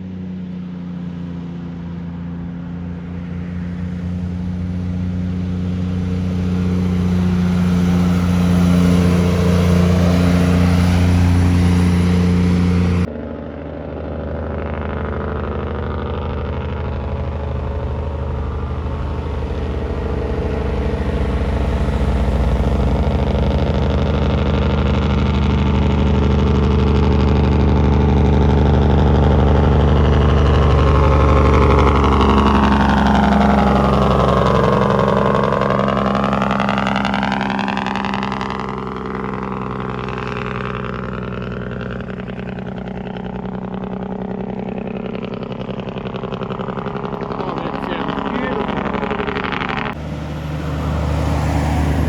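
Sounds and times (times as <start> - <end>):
truck diesel engine passing: 0.0 - 52.0.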